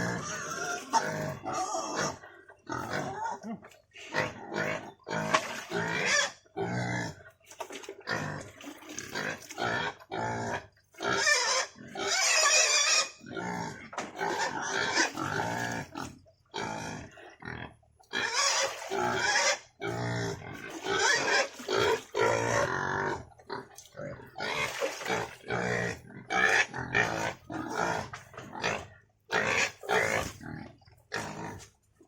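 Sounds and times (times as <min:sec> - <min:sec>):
pigs grunting and calling: 0:00.0 - 0:31.8.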